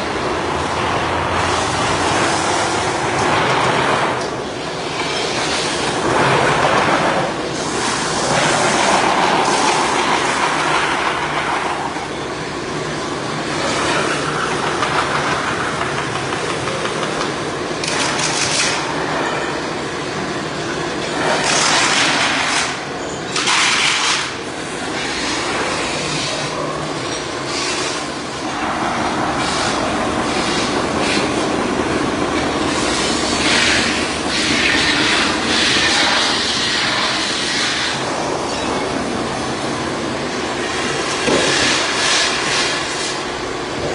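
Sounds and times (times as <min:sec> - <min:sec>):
metal-spinning lathe running: 0:00.0 - 0:43.4.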